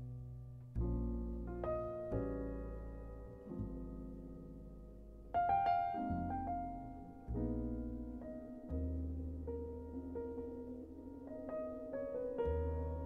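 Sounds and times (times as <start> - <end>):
jazz piano chords: 0.0 - 13.0.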